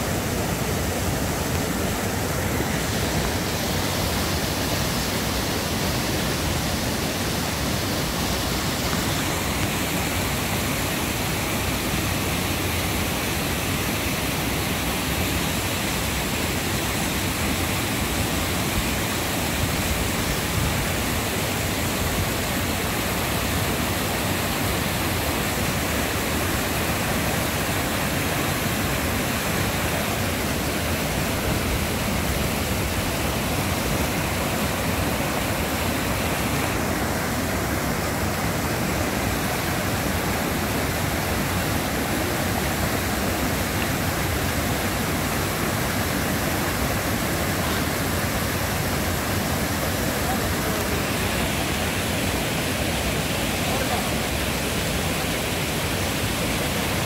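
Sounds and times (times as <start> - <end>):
creek rushing over rapids: 0.0 - 57.0.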